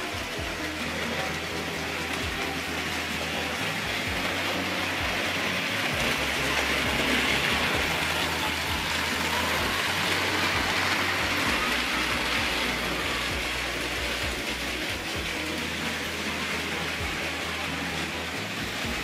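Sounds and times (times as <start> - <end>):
model train motors whirring: 0.0 - 19.0.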